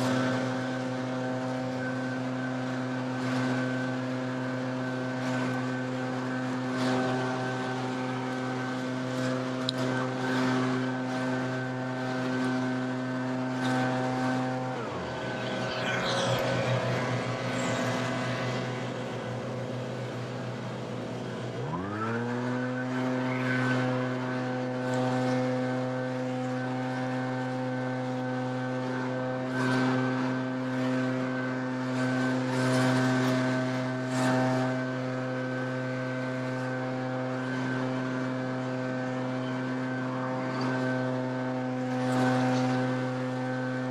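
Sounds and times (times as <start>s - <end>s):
leaf blower engine: 0.0s - 43.9s.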